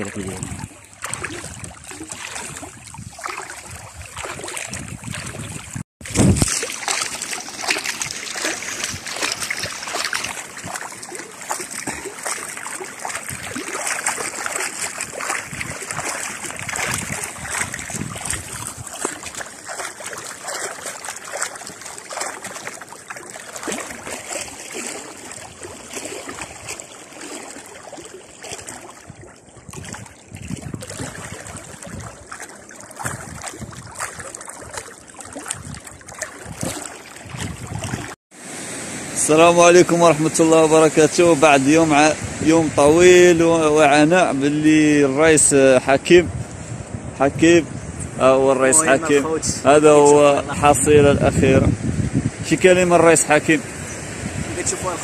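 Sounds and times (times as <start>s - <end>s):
sea water splashing: 0.0s - 46.2s, 48.2s - 55.0s.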